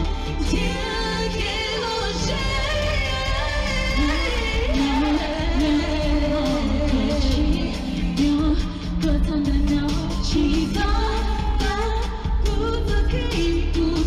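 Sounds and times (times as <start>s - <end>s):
amplified pop backing music: 0.0s - 14.0s
woman singing into microphones: 0.0s - 14.0s.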